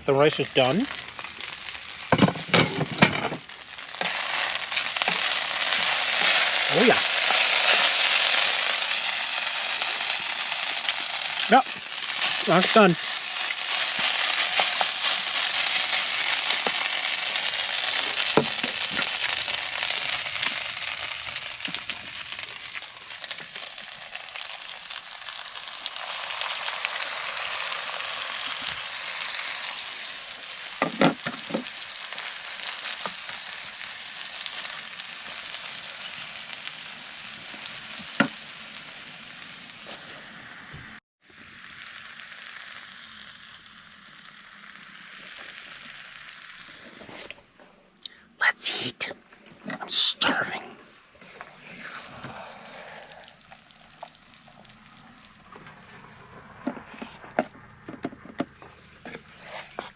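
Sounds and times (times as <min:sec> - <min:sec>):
food sizzling in a frying pan: 0:00.0 - 0:47.5, 0:51.2 - 0:59.9.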